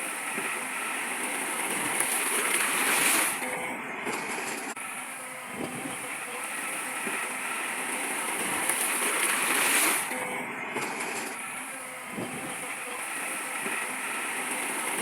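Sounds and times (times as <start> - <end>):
bulldozer and dump trucks running: 0.0 - 15.0.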